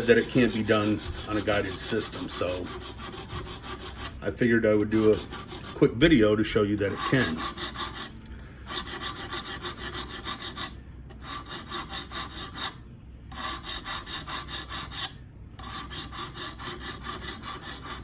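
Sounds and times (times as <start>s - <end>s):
sharpening stone rasping on knife: 0.0s - 4.1s, 6.9s - 18.0s.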